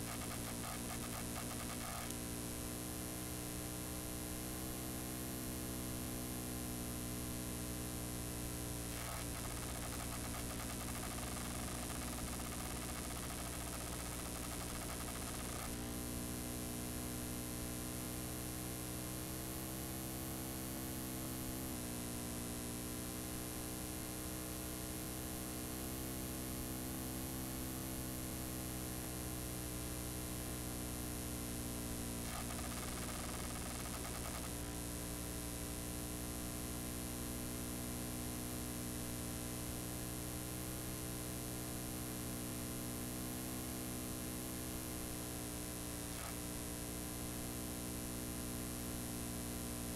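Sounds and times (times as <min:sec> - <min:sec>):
electrical mains hum: 0:00.0 - 0:49.9
tape static hiss: 0:00.0 - 0:49.9.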